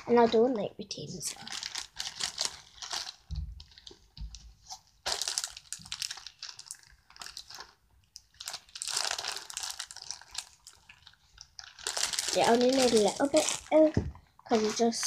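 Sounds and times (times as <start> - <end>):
plastic bag crinkling: 1.2 - 15.0.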